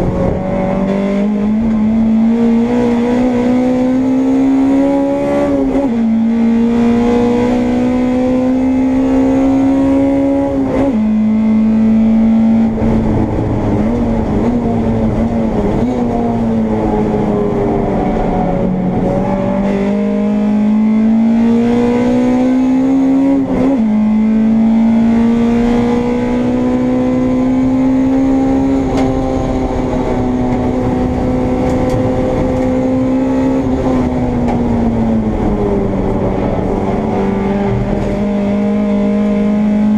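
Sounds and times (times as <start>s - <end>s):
race car engine under load: 0.0s - 39.9s
road and wind noise: 0.0s - 39.9s.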